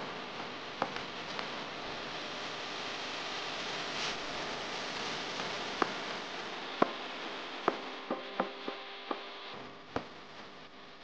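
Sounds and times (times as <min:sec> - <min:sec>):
food frying hiss: 0:00.0 - 0:09.3.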